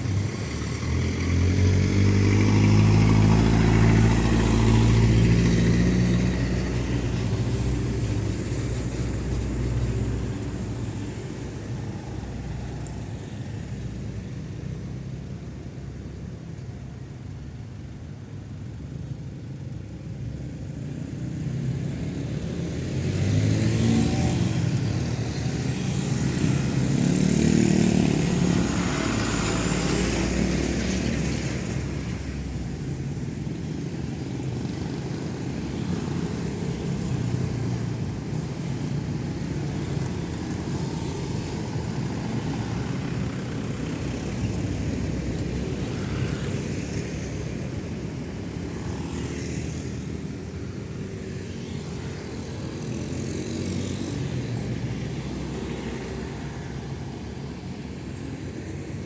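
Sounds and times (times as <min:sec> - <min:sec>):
road traffic passing: 0:00.0 - 0:59.0
vehicles passing loudly: 0:00.0 - 0:59.0.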